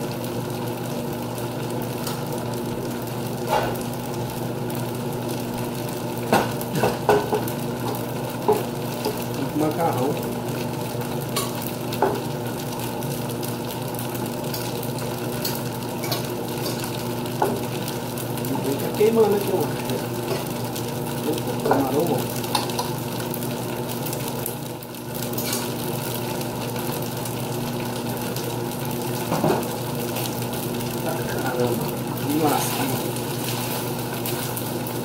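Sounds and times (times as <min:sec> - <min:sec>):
food sizzling on stove: 0:00.0 - 0:35.0.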